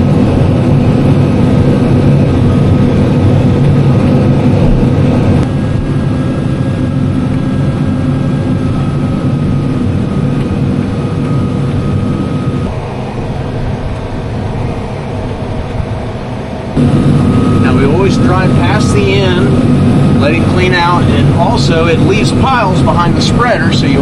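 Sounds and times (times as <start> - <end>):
diesel engine drone: 0.0 - 24.0.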